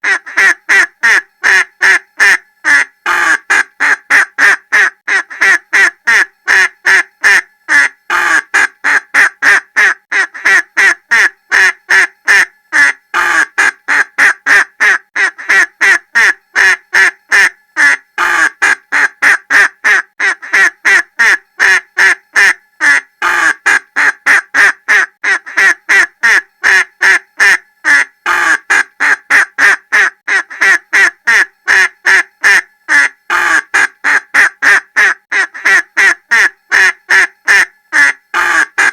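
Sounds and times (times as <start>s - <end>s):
duck quacking: 0.0s - 38.9s.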